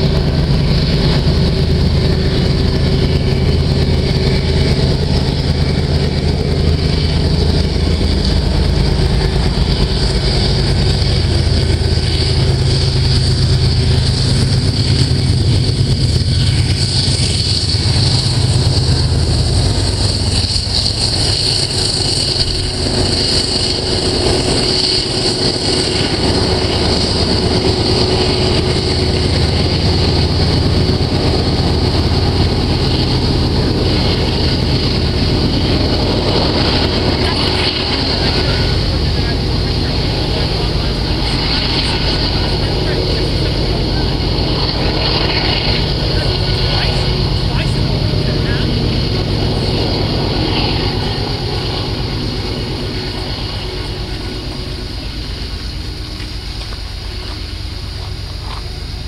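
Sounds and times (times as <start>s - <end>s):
diesel locomotive engine drone: 0.0s - 59.0s
train wheels on rails: 0.0s - 59.0s.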